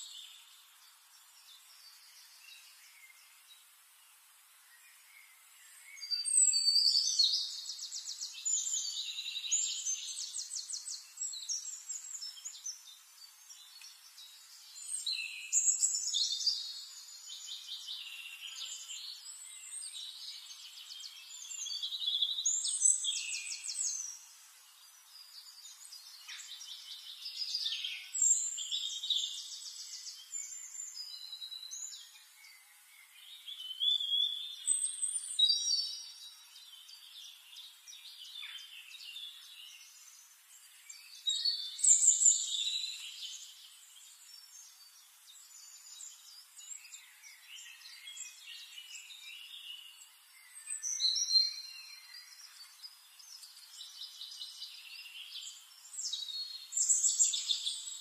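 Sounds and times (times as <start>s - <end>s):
songbird trilling and warbling: 5.7s - 58.0s.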